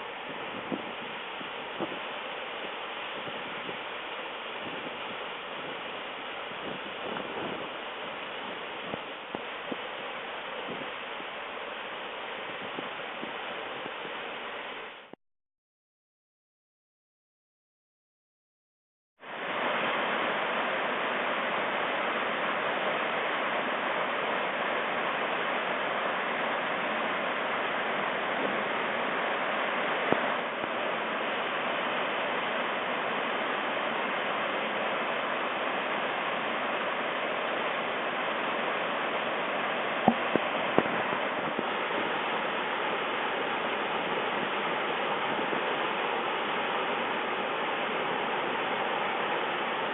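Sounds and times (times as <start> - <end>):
waterfall rushing: 0.0 - 15.1, 19.2 - 49.9.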